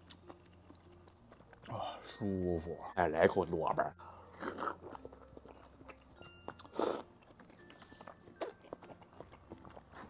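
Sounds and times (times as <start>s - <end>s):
biting and chewing soft food: 0.0s - 10.0s.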